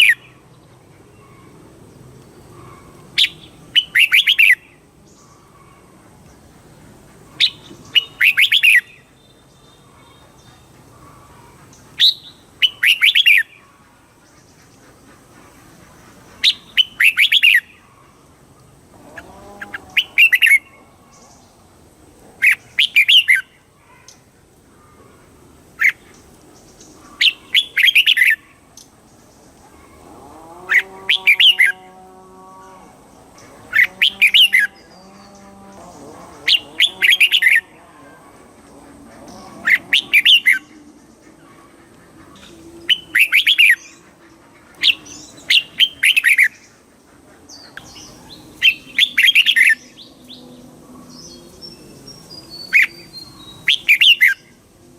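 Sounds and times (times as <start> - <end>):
bird chattering song: 0.0 - 1.6, 2.3 - 18.0, 19.1 - 21.5, 22.4 - 24.3, 25.8 - 30.0, 30.7 - 31.9, 33.0 - 54.6.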